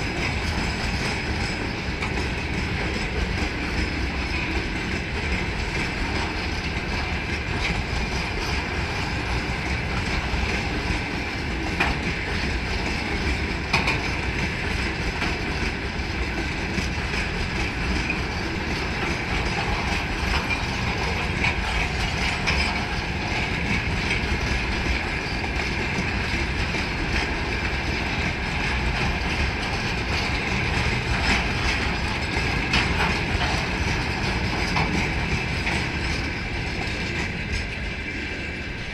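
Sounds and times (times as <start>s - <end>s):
rumble of train wheels on rails: 0.0s - 38.9s
wheels clicking over rail joints: 0.0s - 38.9s.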